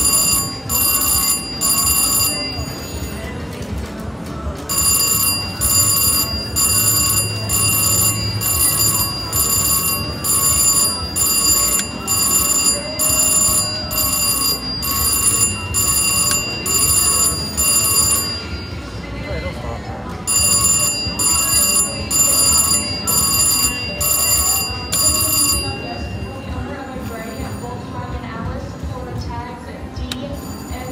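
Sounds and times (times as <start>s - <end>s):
slot machine bell ringing: 0.0s - 3.7s, 4.6s - 19.6s, 20.2s - 27.9s, 30.3s - 30.9s
casino crowd hubbub: 0.0s - 30.9s.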